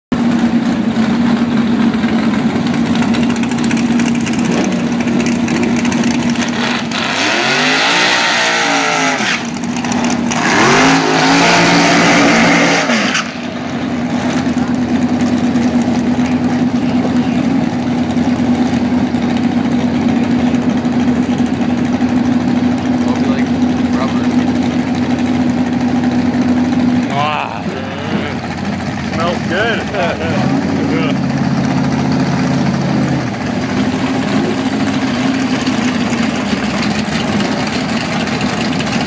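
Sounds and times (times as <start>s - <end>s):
dragster engines idling: 0.1s - 7.7s, 9.3s - 11.2s, 13.2s - 39.0s
dragster engines revving hard: 0.3s - 39.0s.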